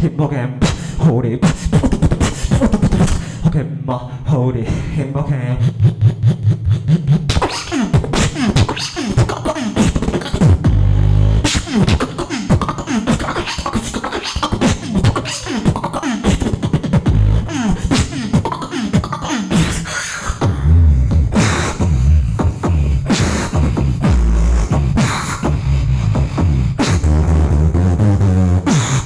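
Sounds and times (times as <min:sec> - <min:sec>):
deep vocal bass sounds: 0:00.0 - 0:29.0
beatboxing drum-like hits: 0:00.6 - 0:03.4, 0:05.6 - 0:29.0.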